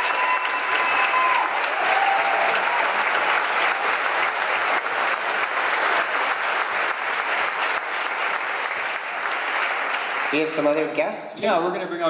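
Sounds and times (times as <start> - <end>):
large audience applauding: 0.0 - 11.1.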